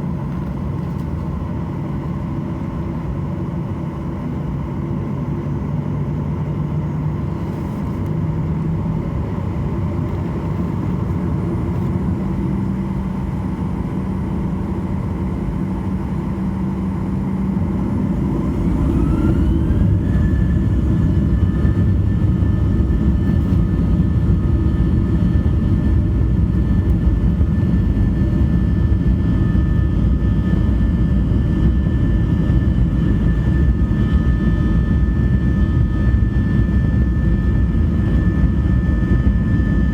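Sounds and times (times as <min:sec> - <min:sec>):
jet engine whine: 0:00.0 - 0:39.9
jet engines rumbling in cabin: 0:00.0 - 0:39.9.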